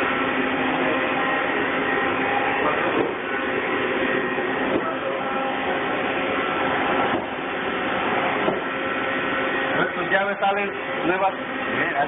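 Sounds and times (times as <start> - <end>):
shop machinery whirring: 0.0 - 12.0.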